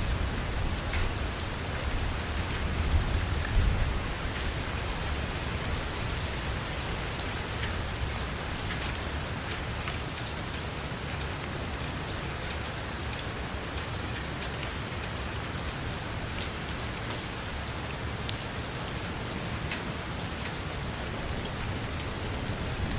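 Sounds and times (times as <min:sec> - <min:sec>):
heavy rain on a metal roof: 0:00.0 - 0:22.9.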